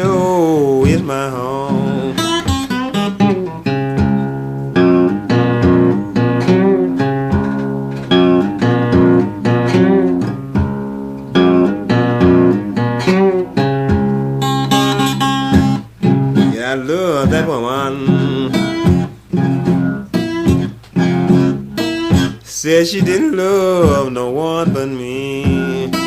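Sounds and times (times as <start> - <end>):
solo blues guitar: 0.0 - 26.0.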